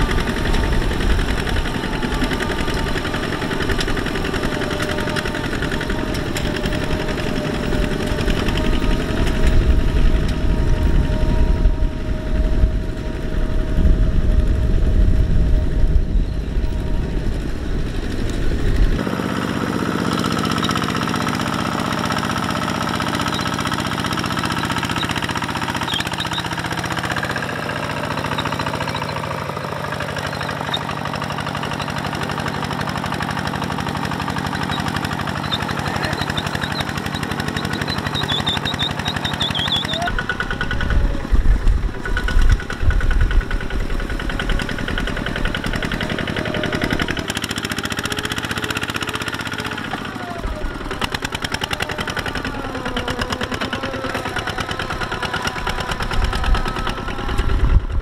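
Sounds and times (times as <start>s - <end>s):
diesel tractor engines chugging: 0.0s - 58.0s
engine low rumbles: 0.0s - 58.0s.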